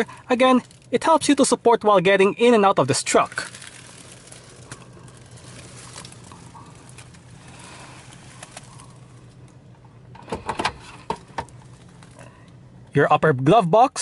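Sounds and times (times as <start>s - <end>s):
diesel engine idling hum: 0.0s - 14.0s.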